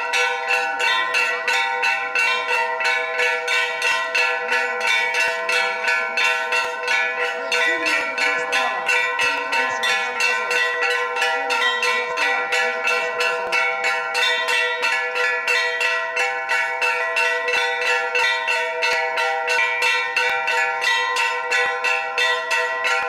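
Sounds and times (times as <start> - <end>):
metal bell struck rapidly: 0.0 - 23.0.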